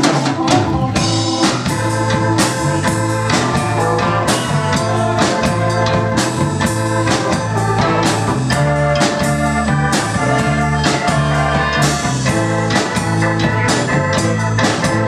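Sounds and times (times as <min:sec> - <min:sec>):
bass guitar: 0:00.0 - 0:15.0
drum kit: 0:00.0 - 0:15.0
organ: 0:00.0 - 0:15.0.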